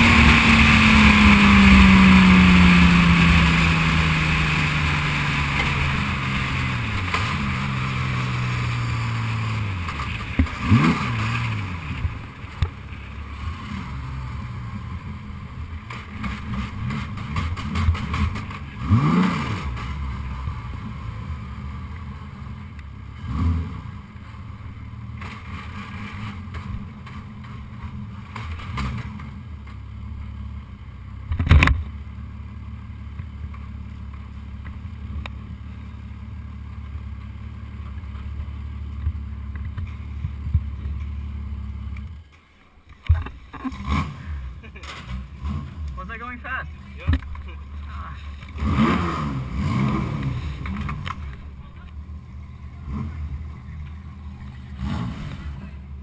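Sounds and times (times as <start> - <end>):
race car engine at low revs: 0.0 - 56.0.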